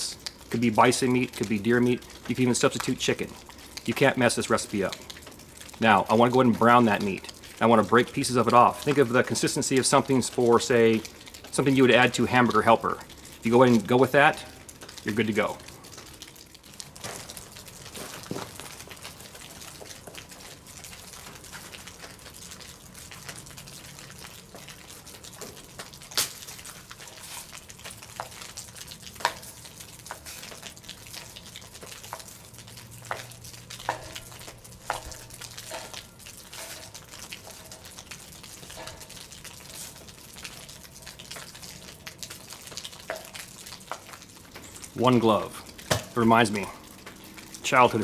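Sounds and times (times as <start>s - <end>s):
meat sizzling in a pot: 0.0s - 48.0s.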